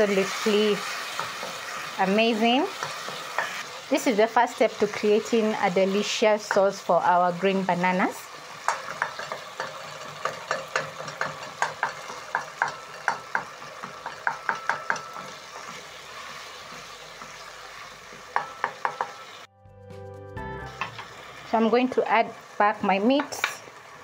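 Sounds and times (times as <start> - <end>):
sauce sizzling in a pot: 0.0 - 19.5, 20.6 - 24.0.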